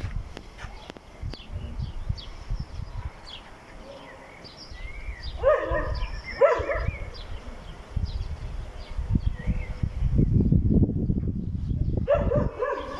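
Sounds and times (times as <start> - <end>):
low wind-like rumble: 0.0 - 4.0, 4.6 - 12.9.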